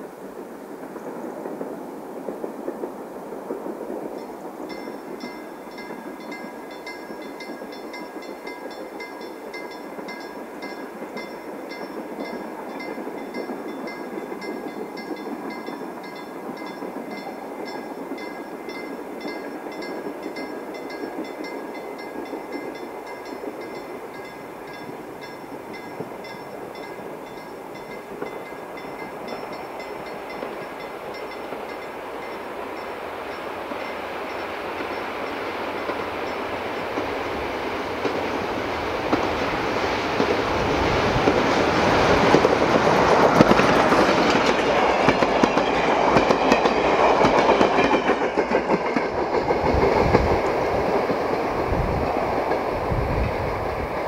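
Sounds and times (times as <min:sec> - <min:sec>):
steam locomotive rumble: 0:00.0 - 0:54.0.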